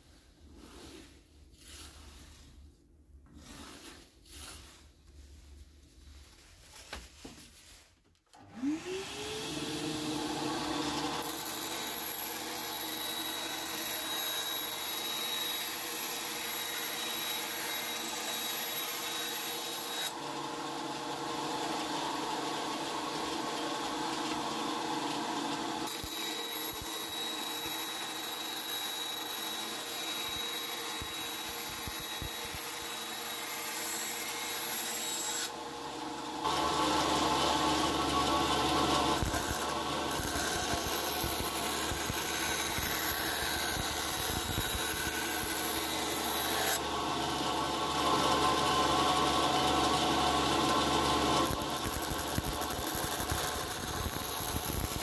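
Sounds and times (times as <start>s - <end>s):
bandsaw motor hum and whine: 8.4s - 55.0s
saw blade cutting board: 8.5s - 55.0s.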